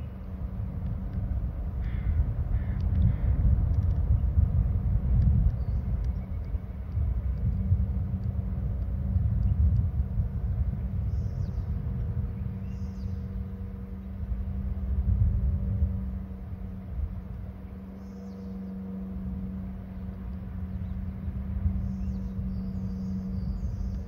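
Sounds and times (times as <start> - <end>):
low outdoor rumble: 0.0 - 24.0
steady low hum: 0.0 - 24.0.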